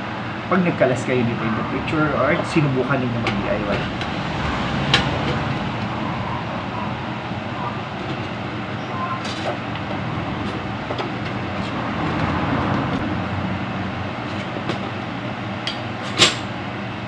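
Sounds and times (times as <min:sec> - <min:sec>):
rumbling background hum: 0:00.0 - 0:16.8.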